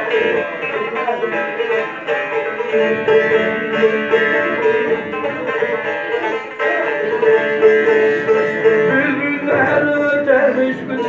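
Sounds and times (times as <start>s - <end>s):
plucked lute melody: 0.0s - 11.0s.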